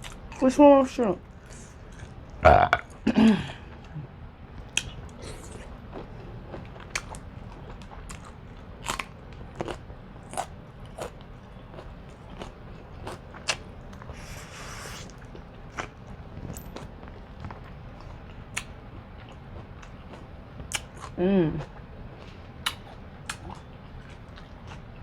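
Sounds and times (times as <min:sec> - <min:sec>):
person chewing with wet smacking: 0:04.6 - 0:25.0.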